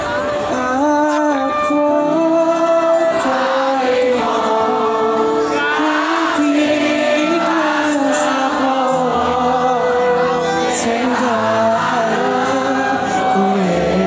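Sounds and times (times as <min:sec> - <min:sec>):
crowd singing along: 0:00.0 - 0:14.0
live band playing pop ballad: 0:00.0 - 0:14.0.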